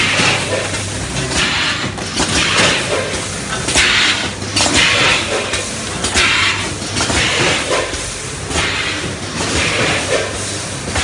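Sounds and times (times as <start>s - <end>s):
machine low hum: 0.0s - 11.0s.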